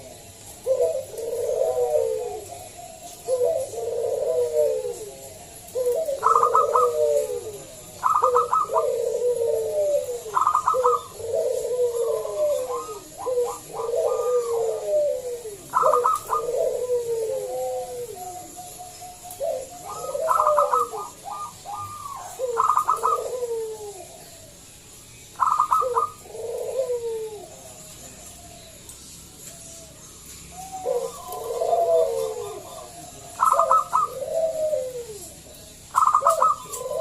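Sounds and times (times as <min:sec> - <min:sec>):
dove cooing song: 0:00.0 - 0:37.0.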